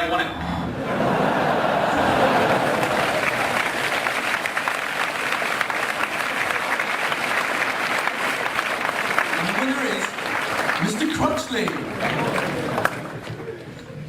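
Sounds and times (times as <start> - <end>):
audience cheering: 0.8 - 13.7
audience applauding: 1.0 - 13.8.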